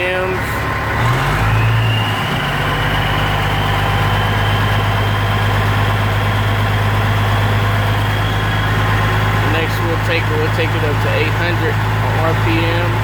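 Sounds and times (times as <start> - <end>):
engine running at raised speed: 0.0 - 13.0.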